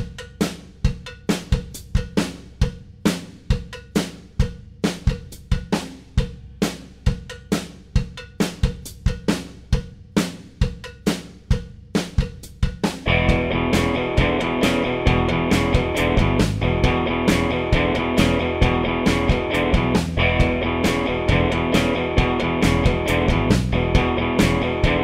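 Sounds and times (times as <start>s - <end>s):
drum kit playing a steady beat: 0.0s - 25.0s.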